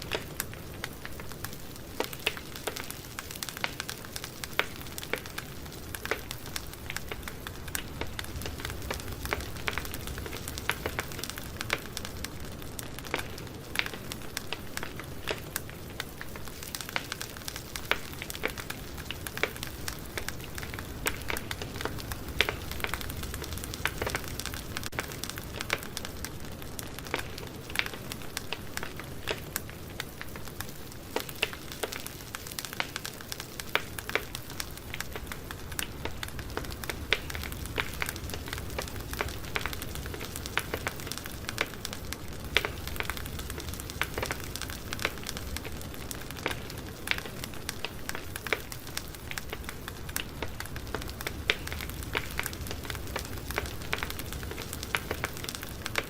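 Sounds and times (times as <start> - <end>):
campfire crackling and popping: 0.0 - 56.0
steady rush of flame: 0.0 - 56.0.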